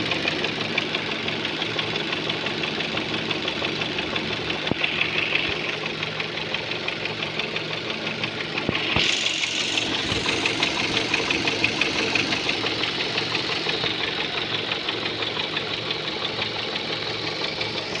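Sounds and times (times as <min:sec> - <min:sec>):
car engine running: 0:00.0 - 0:18.0
rapid regular engine knocking: 0:00.0 - 0:18.0.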